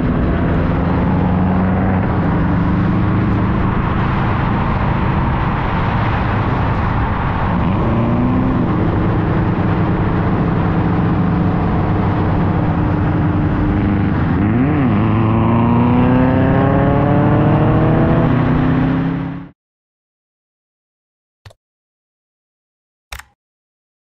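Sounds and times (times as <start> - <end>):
car engine accelerating: 0.0 - 19.5
road noise: 0.0 - 19.6.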